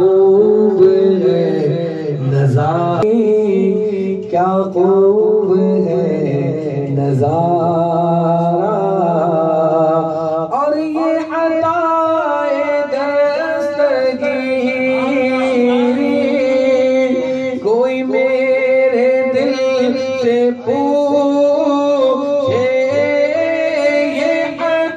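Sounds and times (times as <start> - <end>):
men chanting a devotional song: 0.0 - 24.9.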